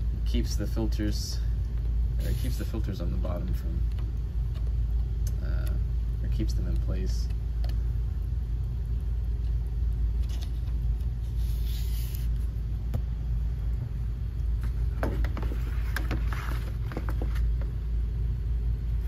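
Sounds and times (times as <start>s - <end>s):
machinery low rumble: 0.0s - 19.0s.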